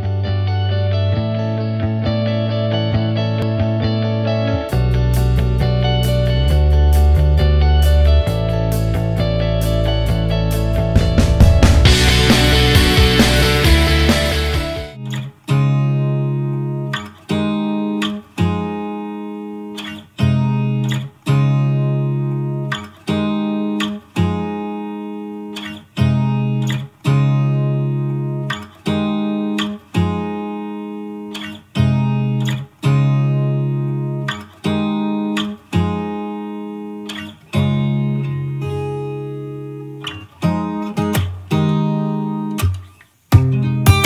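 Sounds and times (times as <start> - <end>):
guitar chords ringing: 0.0 - 44.0.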